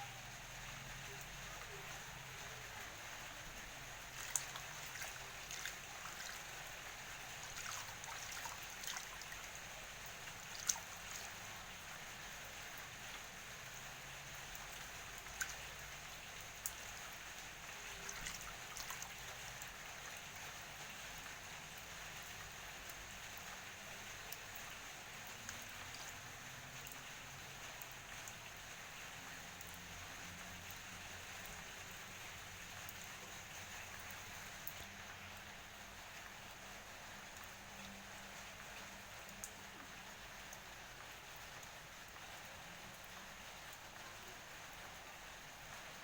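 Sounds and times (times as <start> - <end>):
sharp water drips: 0.0 - 46.0
water trickling: 0.0 - 46.0.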